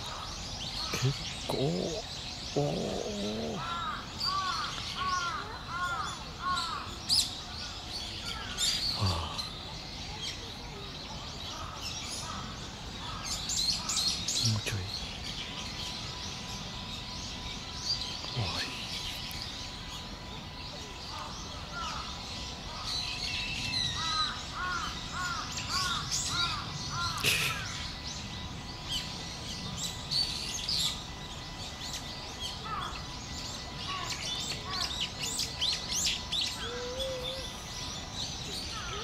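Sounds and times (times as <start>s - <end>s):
birds calling and chirping: 0.0s - 39.0s.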